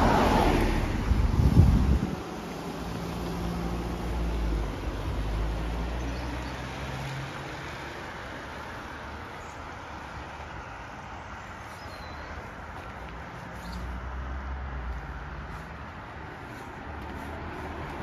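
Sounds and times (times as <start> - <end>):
street background: 0.0 - 18.0.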